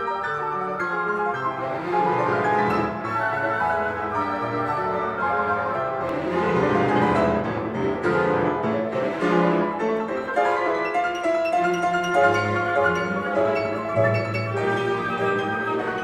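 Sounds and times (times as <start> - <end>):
piano instrumental music: 0.0 - 16.0.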